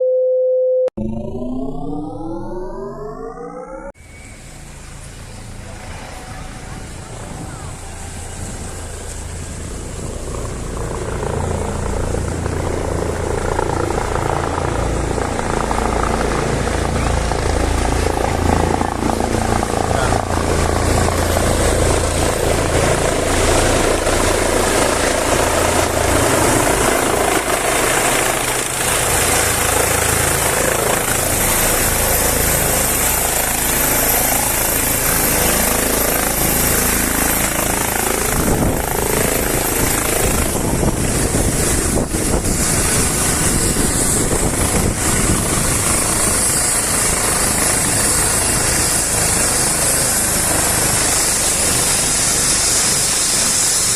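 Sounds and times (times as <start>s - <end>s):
helicopter rotor and turbine: 1.0s - 53.9s.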